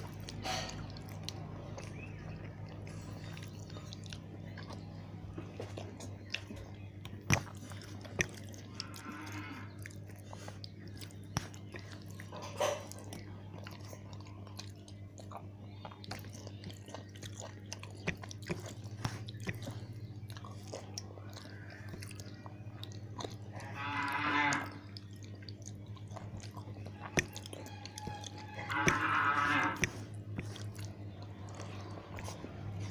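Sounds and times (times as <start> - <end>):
low hum: 0.0 - 32.9
person chewing: 0.0 - 32.9.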